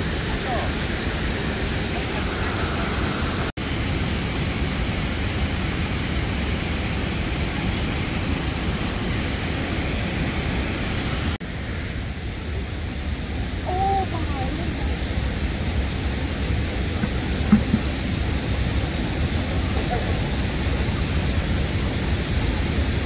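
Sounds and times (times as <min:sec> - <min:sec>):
water rushing over a spillway: 0:00.0 - 0:23.0.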